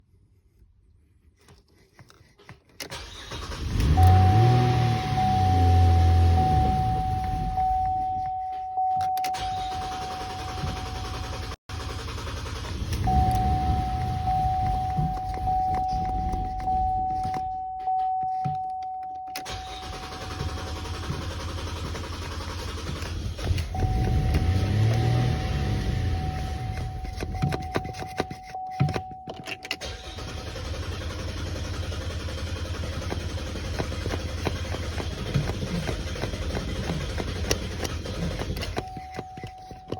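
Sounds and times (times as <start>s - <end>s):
car starter cranking: 2.8s - 39.9s.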